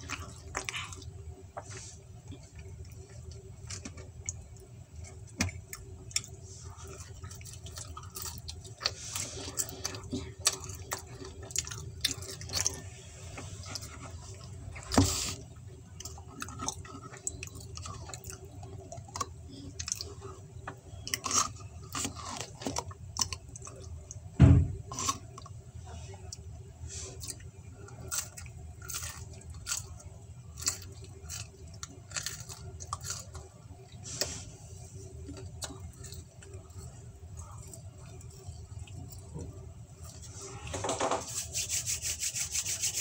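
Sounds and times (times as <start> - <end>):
person chewing pizza: 0.0 - 40.7
steady low hum: 0.0 - 43.0.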